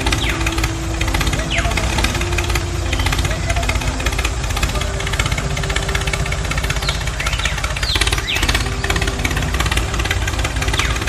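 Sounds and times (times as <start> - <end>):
small diesel engine running: 0.0 - 11.0.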